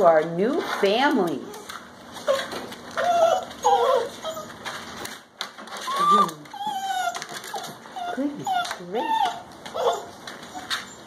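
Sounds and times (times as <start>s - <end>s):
puppies whining: 1.3s - 11.0s.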